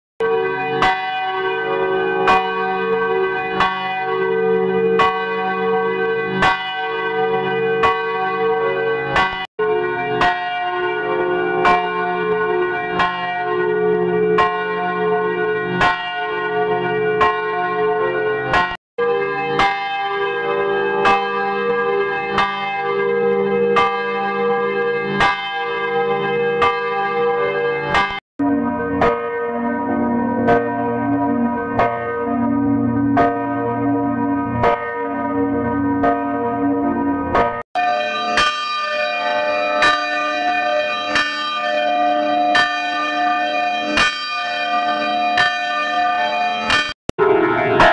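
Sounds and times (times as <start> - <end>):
church bells ringing: 0.2 - 47.9.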